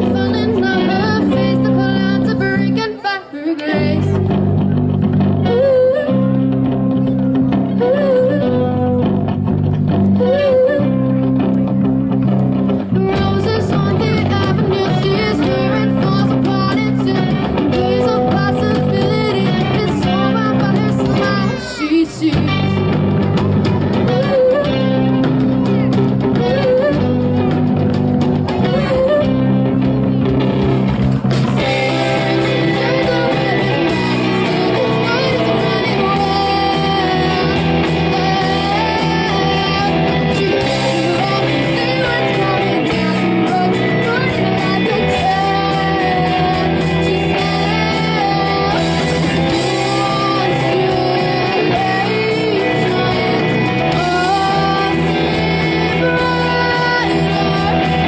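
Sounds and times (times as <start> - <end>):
bass guitar: 0.0 - 3.0, 3.7 - 58.0
person singing: 0.0 - 4.6, 10.2 - 30.3, 31.4 - 58.0
drums: 0.0 - 58.0
electric guitar: 0.0 - 58.0.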